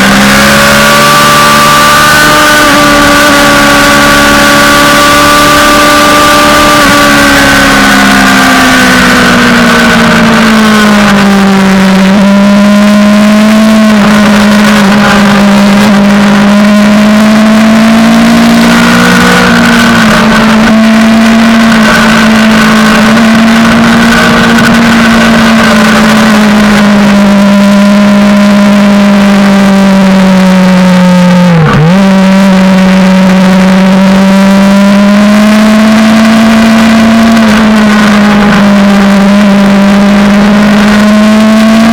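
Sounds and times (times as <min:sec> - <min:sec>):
heavy rushing noise: 0:00.0 - 0:29.5, 0:30.3 - 0:41.9
motorcycle engine at high revs: 0:00.0 - 0:41.9.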